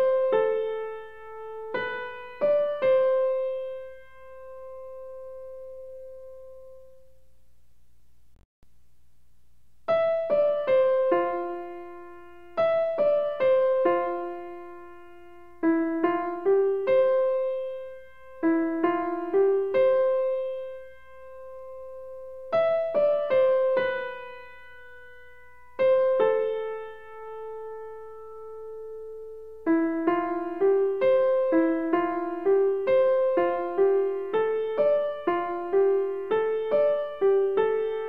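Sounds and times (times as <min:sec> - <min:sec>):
slow piano melody: 0:00.0 - 0:07.3, 0:09.9 - 0:38.0.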